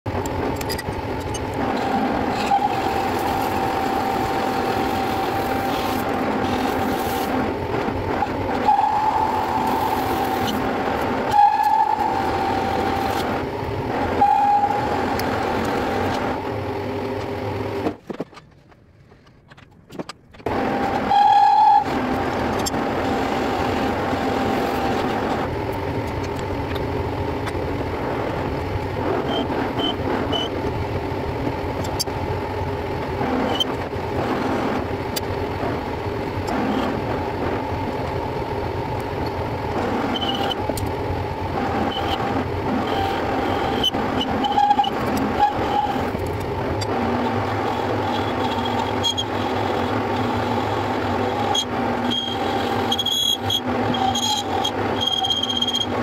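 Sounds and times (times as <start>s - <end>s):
metal lathe whining: 0.1s - 17.7s, 20.4s - 56.0s.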